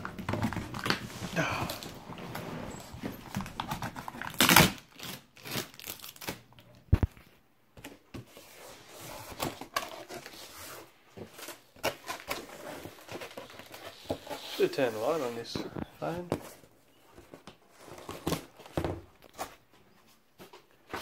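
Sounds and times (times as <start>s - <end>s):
cardboard and plastic rustling: 0.0s - 21.0s.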